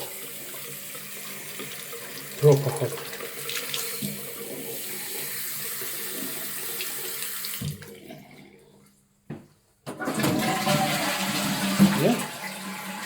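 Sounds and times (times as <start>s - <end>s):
water running from a tap: 0.0s - 8.3s, 10.4s - 13.0s.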